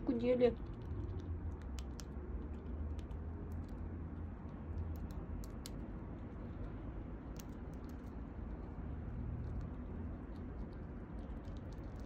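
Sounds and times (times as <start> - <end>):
low steady hum: 0.0 - 12.0
squirrel gnawing and chewing: 0.0 - 12.0.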